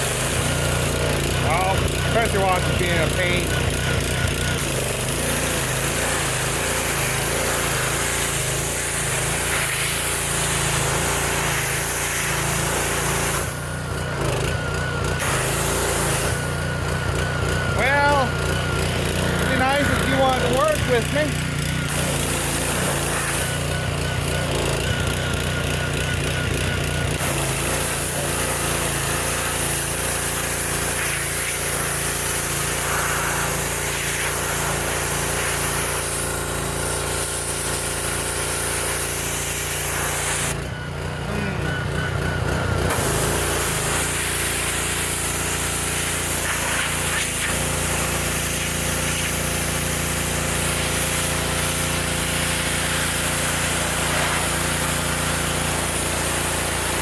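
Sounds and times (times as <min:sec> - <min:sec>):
pressure washer spraying: 0:00.0 - 0:57.0.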